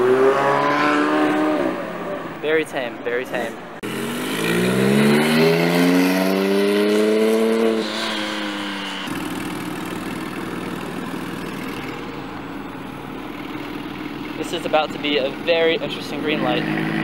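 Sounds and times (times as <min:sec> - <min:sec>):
car engine accelerating: 0:00.0 - 0:02.5, 0:03.8 - 0:17.0.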